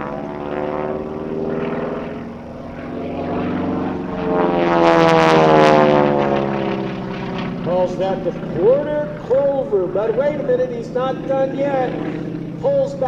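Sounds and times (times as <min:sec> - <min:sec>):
propeller plane engine passing: 0:00.0 - 0:13.0
harsh propeller rasp: 0:01.0 - 0:13.0.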